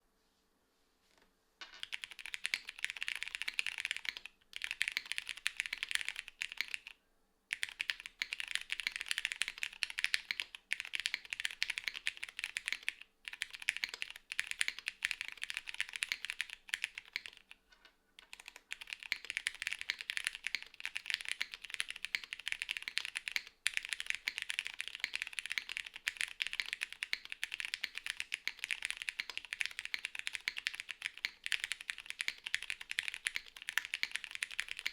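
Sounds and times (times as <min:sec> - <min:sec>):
mechanical keyboard typing: 0:01.8 - 0:17.6, 0:18.2 - 0:34.9.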